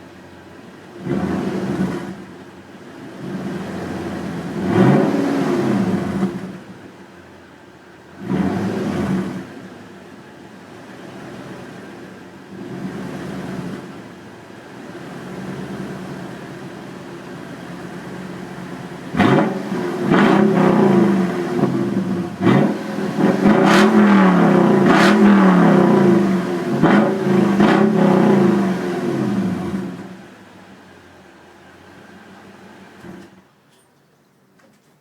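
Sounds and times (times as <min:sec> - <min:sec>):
truck engine idling and revving: 0:00.0 - 0:33.7.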